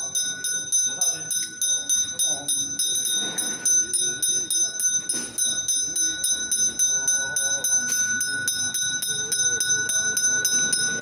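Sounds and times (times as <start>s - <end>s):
handbell rung rapidly: 0.0s - 11.0s.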